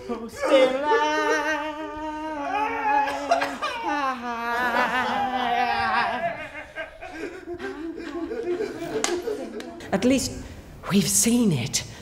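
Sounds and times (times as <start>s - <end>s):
people laughing: 0.0s - 9.9s.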